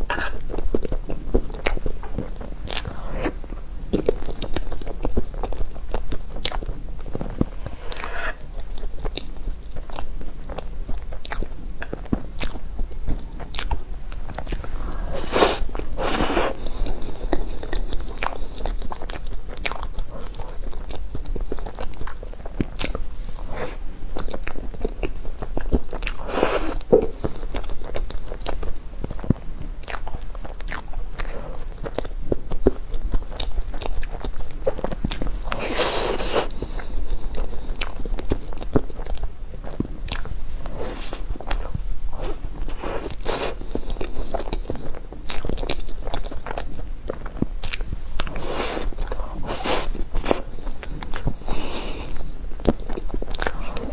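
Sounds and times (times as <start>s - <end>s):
crunchy chewing: 0.0s - 53.9s.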